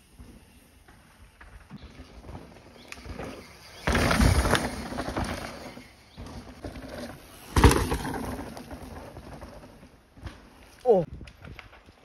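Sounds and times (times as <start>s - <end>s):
bike tyres rushing on dirt: 0.0s - 12.0s.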